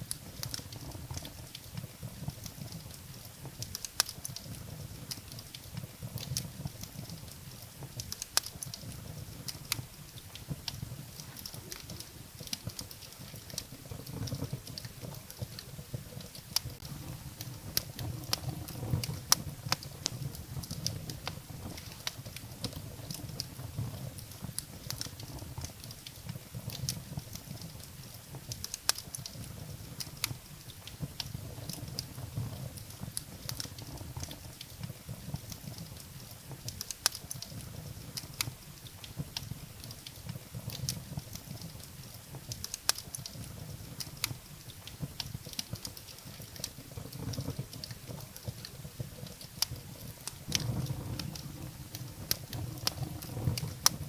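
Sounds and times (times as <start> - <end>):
firewood crackling and popping: 0.0 - 54.0
low rumble of flames: 0.0 - 54.0.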